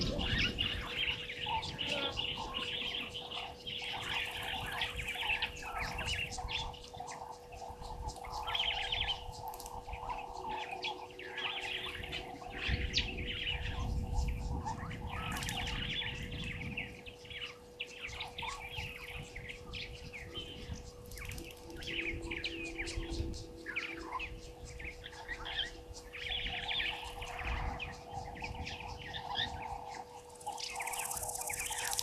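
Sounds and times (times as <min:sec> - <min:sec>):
faint steady hum: 0:00.0 - 0:32.0
wild birds chirping: 0:00.0 - 0:32.0.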